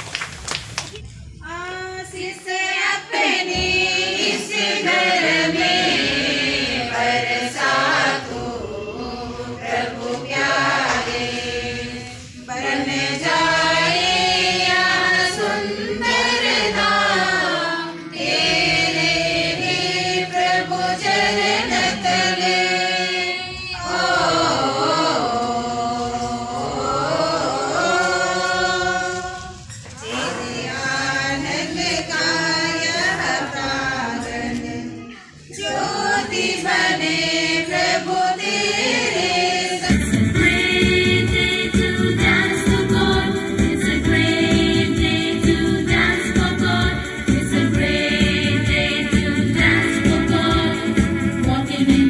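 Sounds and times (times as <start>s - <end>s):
group singing a hymn: 1.4s - 52.0s.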